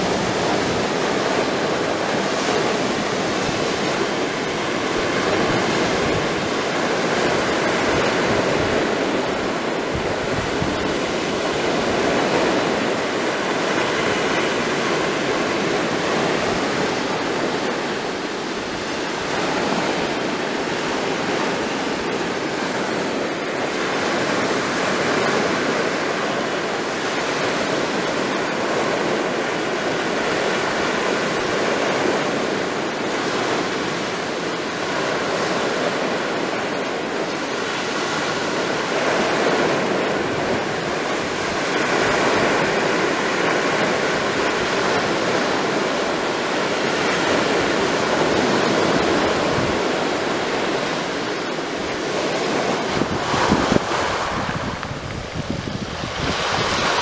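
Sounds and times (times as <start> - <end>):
surf washing over stony shore: 0.0 - 57.0.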